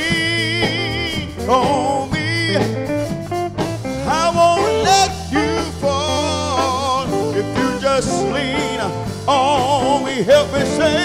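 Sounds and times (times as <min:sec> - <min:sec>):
man singing gospel with vibrato: 0:00.0 - 0:03.2, 0:03.8 - 0:11.0
bass and guitar: 0:00.0 - 0:11.0.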